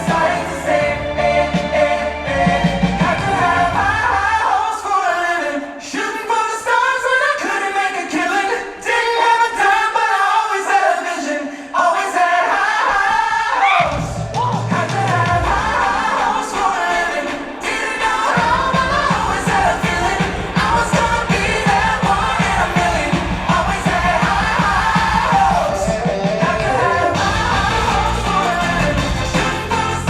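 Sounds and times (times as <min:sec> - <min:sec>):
voices singing over music: 0:00.0 - 0:30.0.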